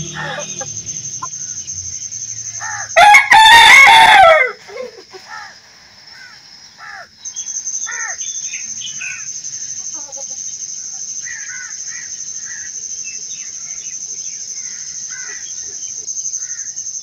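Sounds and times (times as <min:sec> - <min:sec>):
birds chirping and cawing: 0:00.0 - 0:17.0
high fast-pulsing insect trill: 0:00.0 - 0:17.0.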